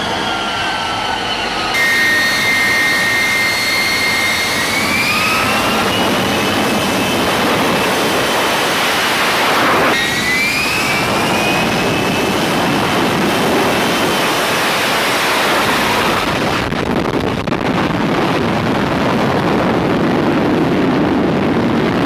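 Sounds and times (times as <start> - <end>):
jet engine roar with whine: 0.0 - 22.0.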